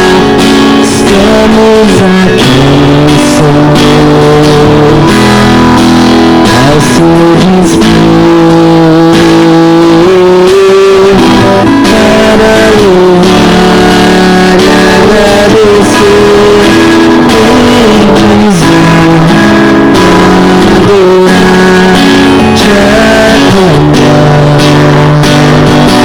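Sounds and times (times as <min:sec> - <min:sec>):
instrumental guitar music: 0:00.0 - 0:26.0.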